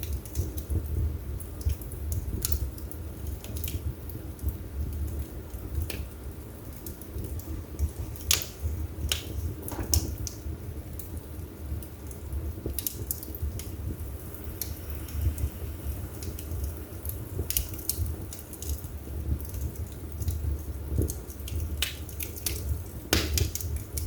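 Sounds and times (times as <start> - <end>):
fire flames rumbling: 0.0 - 24.0
logs crackling and popping: 0.0 - 24.0.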